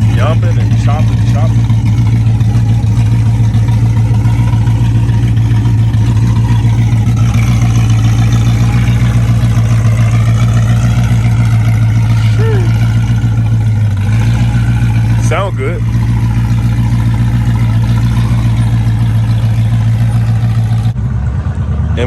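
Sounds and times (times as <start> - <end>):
car engine lumpy idle: 0.0 - 22.0.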